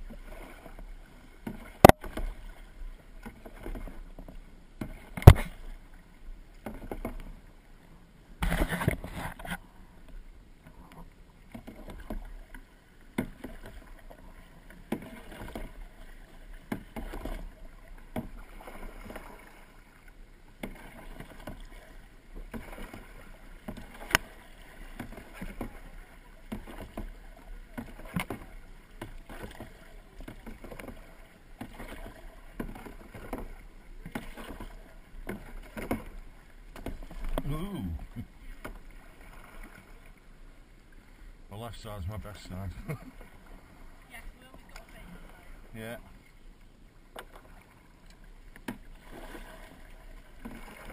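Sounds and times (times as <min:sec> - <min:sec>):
paddle splashing in water: 0:00.0 - 0:50.9.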